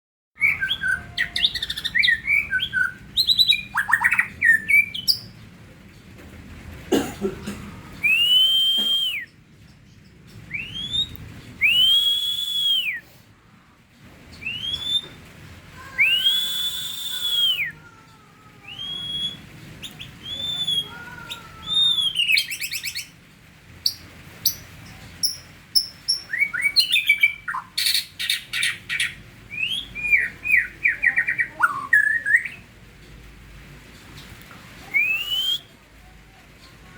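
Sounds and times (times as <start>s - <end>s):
songbird chirping and trilling: 0.4s - 5.6s, 8.0s - 12.9s, 14.3s - 23.2s, 23.8s - 32.8s, 34.1s - 36.9s.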